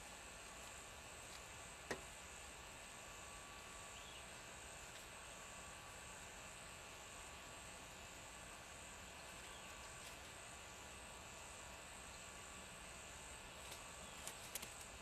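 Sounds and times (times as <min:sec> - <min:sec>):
insects trilling: 0:01.9 - 0:15.0.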